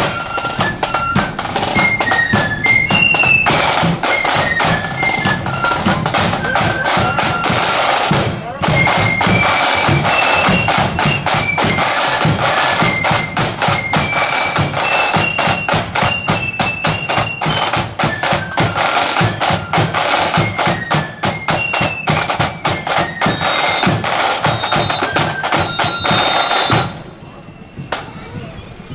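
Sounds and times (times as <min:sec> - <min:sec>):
rapid snare drumming: 0:00.0 - 0:27.1
flute band high melody: 0:00.0 - 0:28.6.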